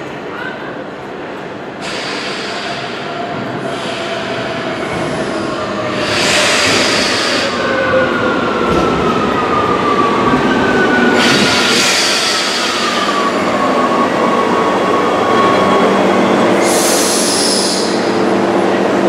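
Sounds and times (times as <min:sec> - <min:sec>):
train braking rumble and whine: 0:00.0 - 0:19.0.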